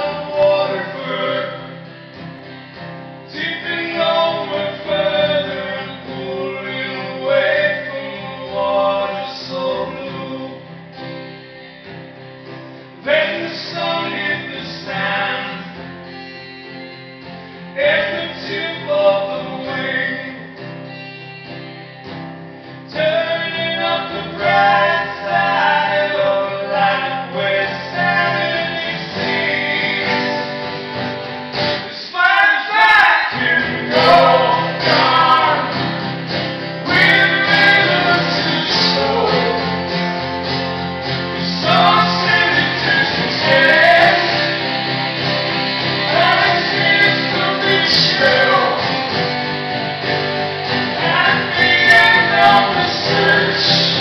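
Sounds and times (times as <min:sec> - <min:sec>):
men singing: 0:00.0 - 0:01.8, 0:03.3 - 0:12.1, 0:13.0 - 0:15.8, 0:17.8 - 0:20.6, 0:22.9 - 0:30.8, 0:31.9 - 0:40.0, 0:41.3 - 0:54.0
guitar accompaniment: 0:00.0 - 0:54.0.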